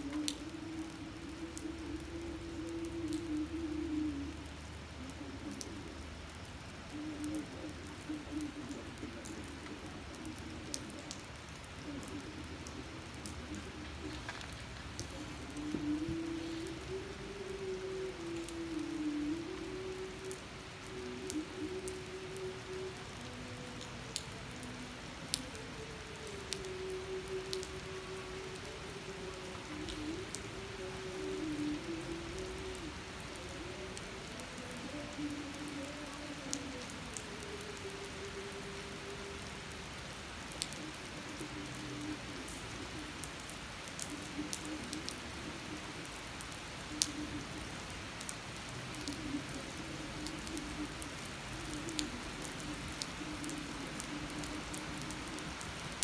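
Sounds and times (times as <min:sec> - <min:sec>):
rain on wet pavement: 0:00.0 - 0:56.0
raindrops ticking close by: 0:00.0 - 0:56.0.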